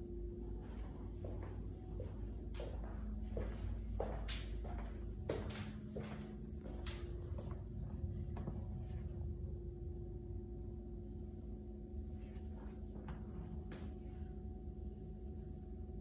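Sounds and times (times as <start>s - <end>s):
faint constant tone: 0.0s - 16.0s
low hum: 0.0s - 16.0s.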